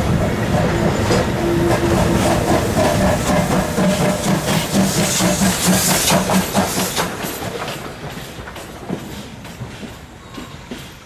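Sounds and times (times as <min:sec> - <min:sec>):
low train rumble: 0:00.0 - 0:11.0
train wheels clicking over rail joints: 0:00.0 - 0:11.0.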